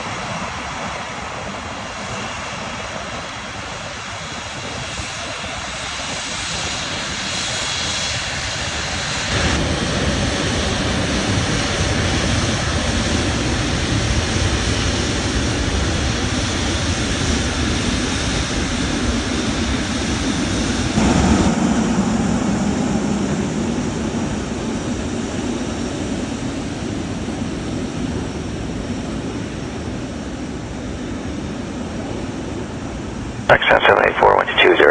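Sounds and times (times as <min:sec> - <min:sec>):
jet engines running: 0:00.0 - 0:34.9.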